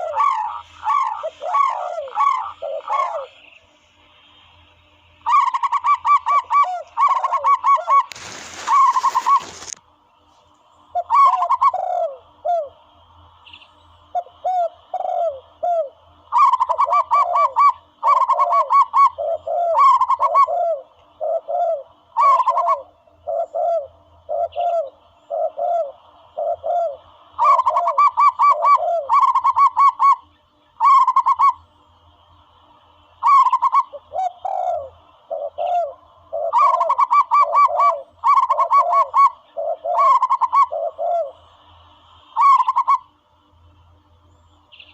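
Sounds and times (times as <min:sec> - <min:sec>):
dove cooing: 0:00.0 - 0:03.5, 0:05.2 - 0:09.8, 0:10.9 - 0:12.9, 0:14.1 - 0:31.6, 0:33.2 - 0:41.6, 0:42.2 - 0:43.1.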